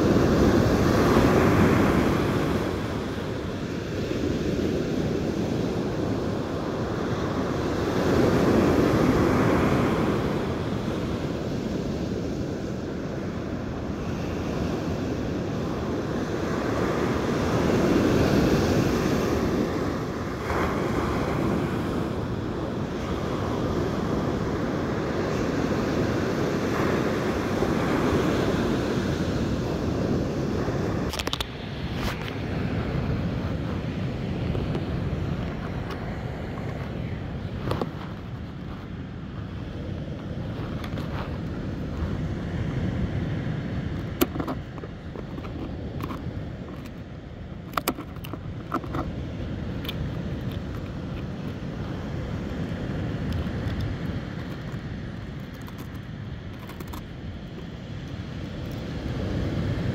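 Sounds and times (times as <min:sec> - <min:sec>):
ocean surf breaking on beach: 0:00.0 - 0:59.9
wind buffeting microphone: 0:00.0 - 0:59.9.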